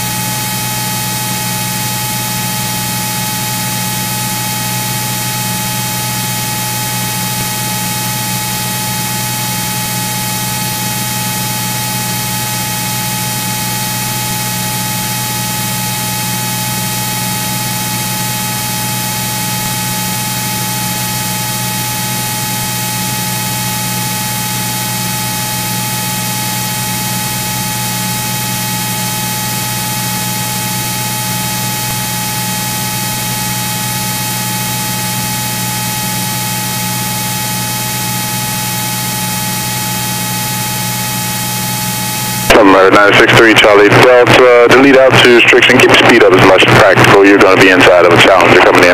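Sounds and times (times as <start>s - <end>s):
electrical hum: 0.0s - 48.9s
high whine: 0.0s - 48.9s
radio static hiss: 0.0s - 48.9s.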